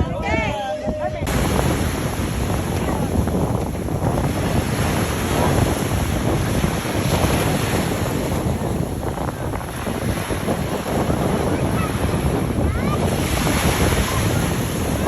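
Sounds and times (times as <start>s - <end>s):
ocean waves breaking: 0.0s - 15.0s
wind buffeting microphone: 0.0s - 15.0s.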